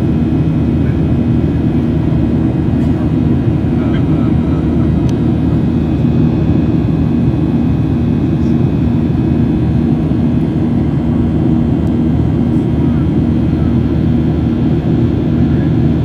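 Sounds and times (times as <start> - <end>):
jet engine rumble in cabin: 0.0 - 16.0.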